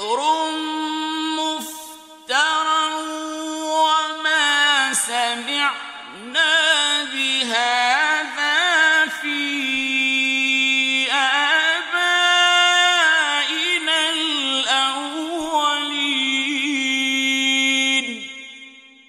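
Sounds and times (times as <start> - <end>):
person chanting recitation: 0.0 - 18.8.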